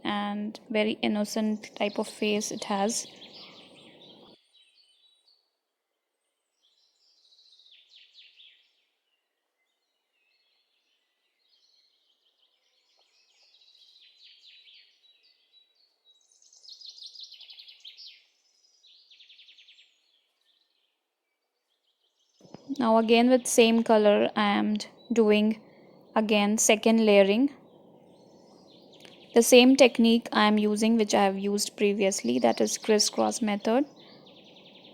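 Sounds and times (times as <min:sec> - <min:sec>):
birds chirping trills: 0:00.0 - 0:05.5, 0:06.2 - 0:34.9.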